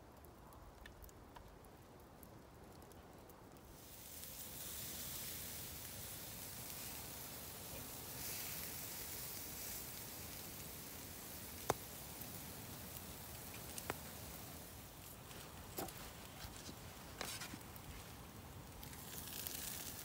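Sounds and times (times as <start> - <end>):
steak sizzling: 3.7 - 20.0.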